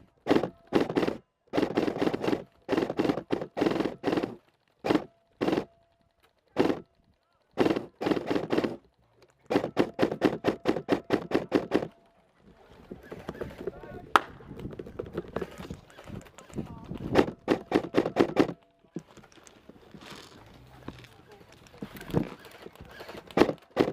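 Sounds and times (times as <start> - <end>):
airsoft rifle bursts: 0.0 - 23.9.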